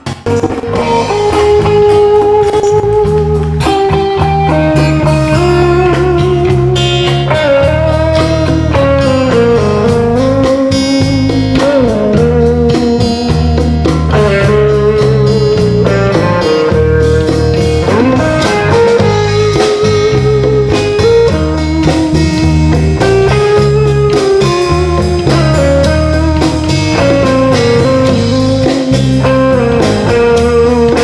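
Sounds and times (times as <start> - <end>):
blues-rock guitar music: 0.0 - 31.0.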